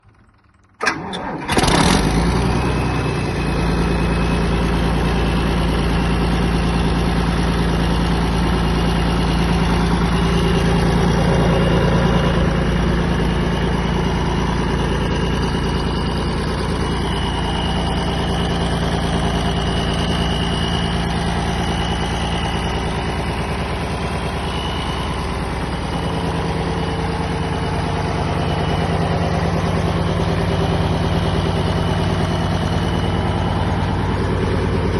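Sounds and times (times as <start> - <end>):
diesel generator engine running: 0.0 - 34.9.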